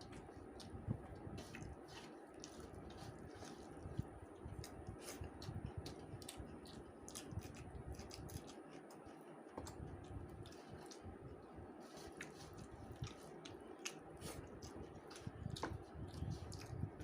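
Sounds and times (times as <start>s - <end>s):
wet chewing mouth sounds: 0.0s - 17.0s.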